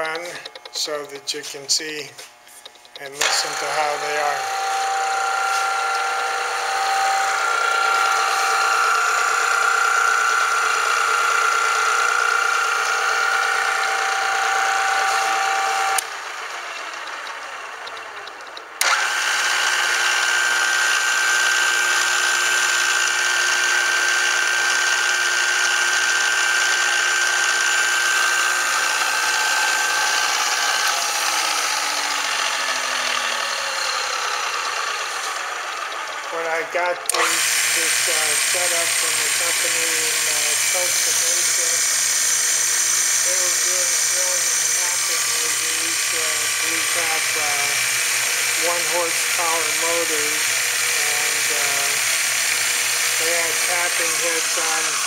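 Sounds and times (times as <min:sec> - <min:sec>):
drill press gear whine: 0:00.0 - 0:55.0
spindle winding down: 0:00.0 - 0:55.0.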